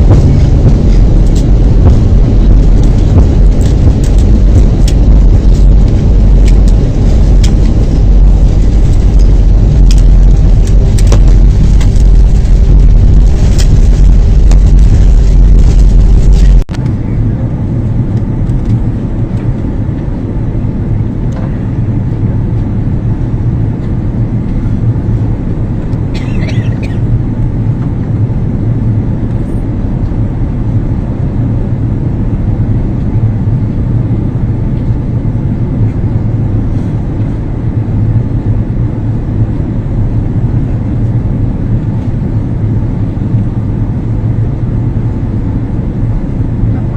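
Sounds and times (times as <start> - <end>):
jet airliner cabin rumble: 0.0 - 46.9.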